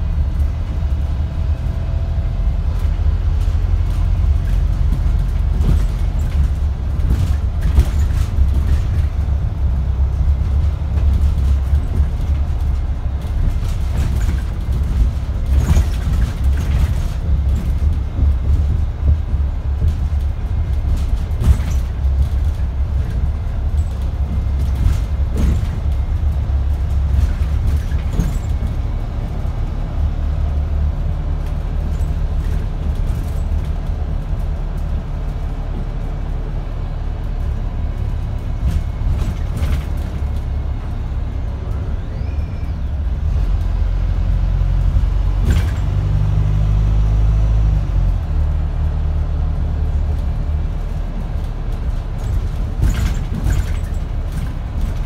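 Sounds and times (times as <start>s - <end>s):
bus engine droning: 0.0s - 55.0s
body knocks and rattles: 2.7s - 41.6s, 43.5s - 46.8s, 48.7s - 55.0s.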